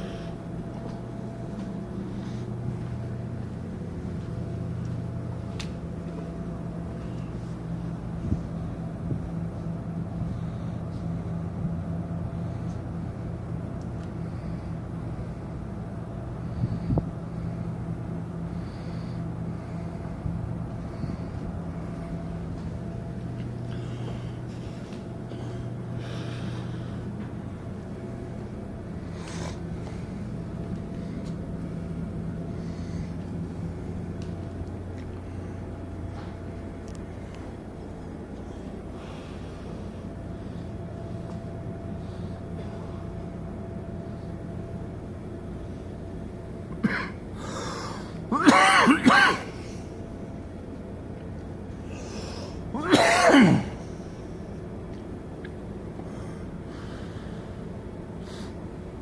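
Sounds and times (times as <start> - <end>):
ship machinery humming: 0.0 - 59.0.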